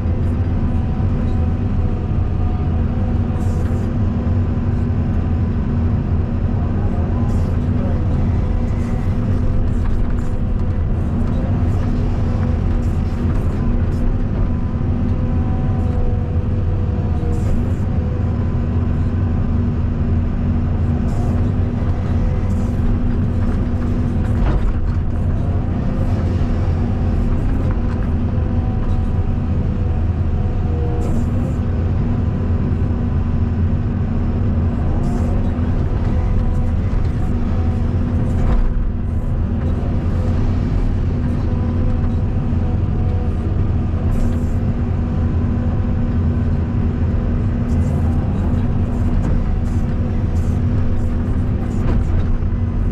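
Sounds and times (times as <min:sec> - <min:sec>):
excavator diesel engine droning: 0:00.0 - 0:52.9.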